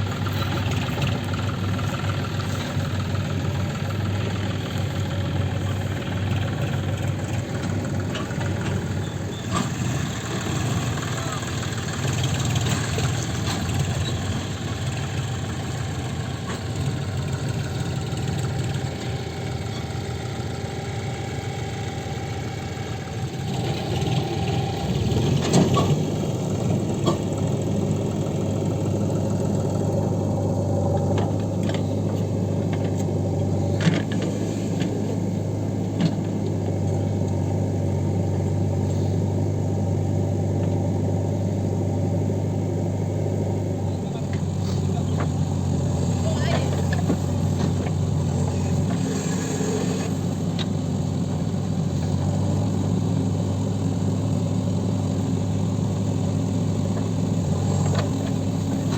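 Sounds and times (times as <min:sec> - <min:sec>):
heavy diesel machinery running: 0:00.0 - 0:58.9.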